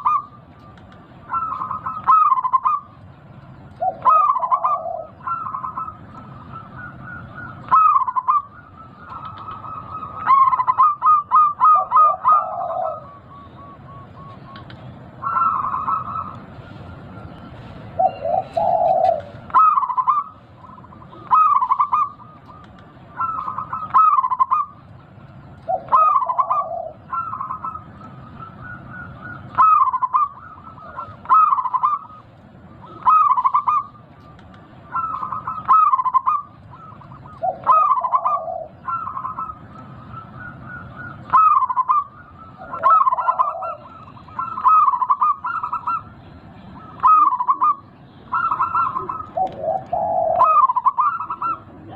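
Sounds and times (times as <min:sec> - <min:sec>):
dove cooing: 0:00.0 - 0:03.0, 0:03.7 - 0:24.9, 0:25.5 - 0:34.1, 0:34.8 - 0:51.9.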